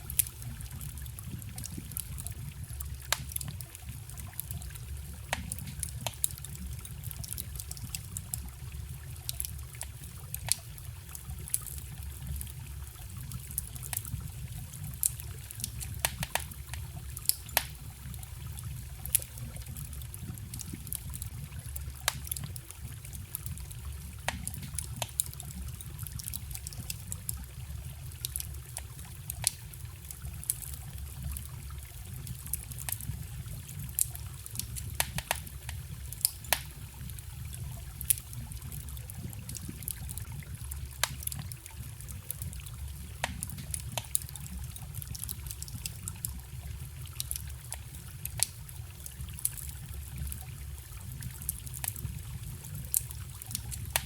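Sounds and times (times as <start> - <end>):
campfire crackling and popping: 0.0 - 54.0
forest stream trickling: 0.0 - 54.0.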